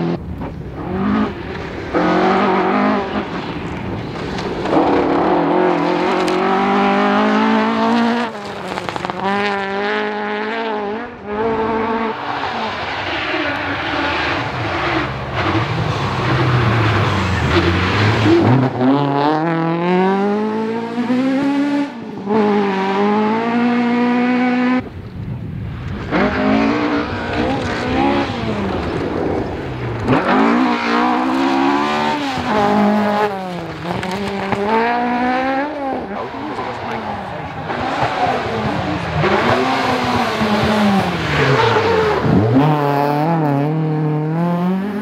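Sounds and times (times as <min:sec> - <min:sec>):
second rally car revving: 0:00.0 - 0:24.9, 0:25.8 - 0:45.0
rally car engine at full throttle: 0:00.0 - 0:45.0.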